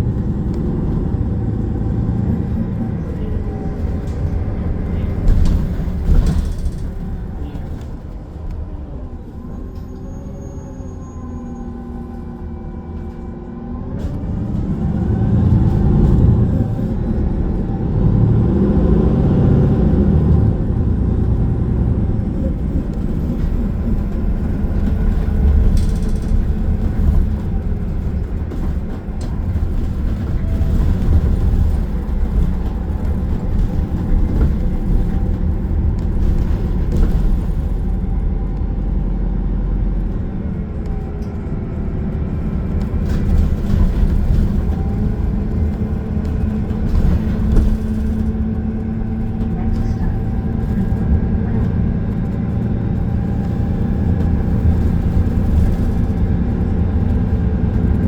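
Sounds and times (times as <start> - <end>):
bus drivetrain hum: 0.0 - 58.0
low road rumble: 0.0 - 58.0.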